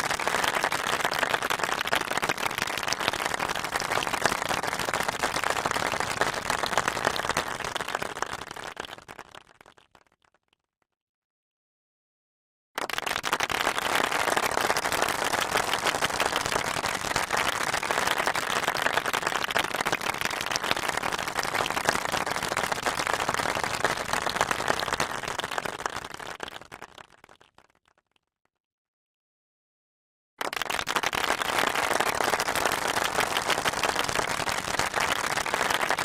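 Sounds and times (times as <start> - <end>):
crowd applauding: 0.0 - 9.6, 12.8 - 27.3, 30.4 - 36.0.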